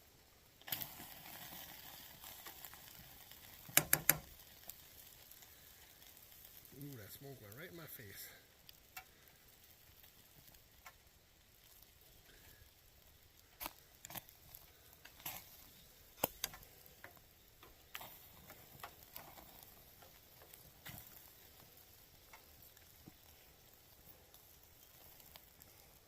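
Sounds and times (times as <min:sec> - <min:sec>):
fire crackling: 0:00.0 - 0:26.0
sharp fire pops: 0:00.5 - 0:26.0.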